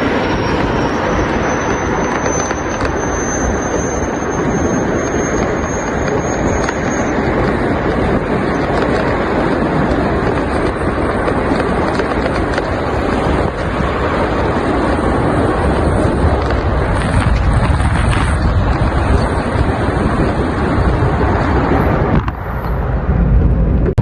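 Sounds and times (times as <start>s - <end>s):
road and wind noise in vehicle: 0.0s - 24.0s.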